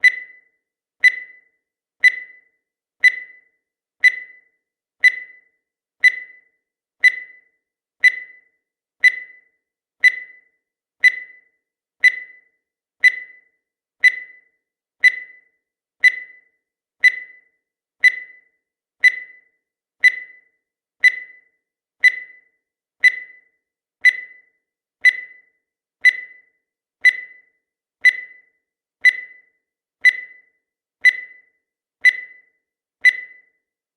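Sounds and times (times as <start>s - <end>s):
short high-pitched beeps: 0.0s - 33.6s.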